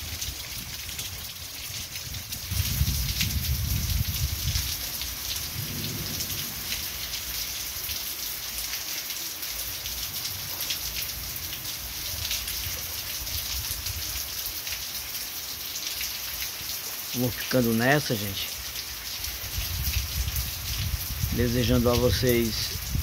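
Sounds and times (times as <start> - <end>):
heavy rain pouring: 0.0 - 23.0
water streaming off roof: 0.0 - 23.0.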